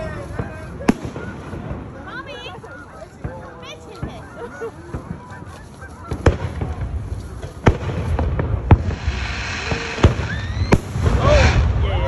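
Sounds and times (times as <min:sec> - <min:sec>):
fireworks booming: 0:00.0 - 0:02.2, 0:03.2 - 0:05.2, 0:06.1 - 0:12.0.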